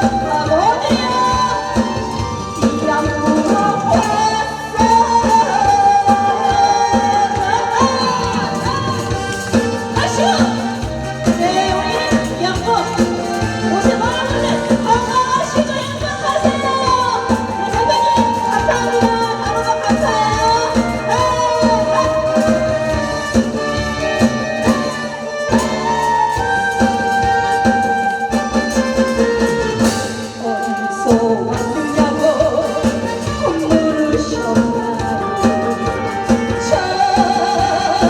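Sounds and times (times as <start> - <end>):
backing track with steady beat: 0.0 - 38.0
person singing: 0.0 - 38.0.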